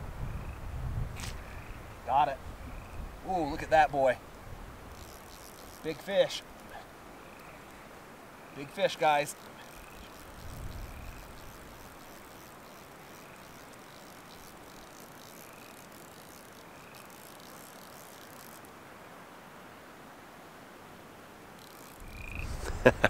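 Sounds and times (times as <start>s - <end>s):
outdoor ambient hiss: 0.0s - 23.0s.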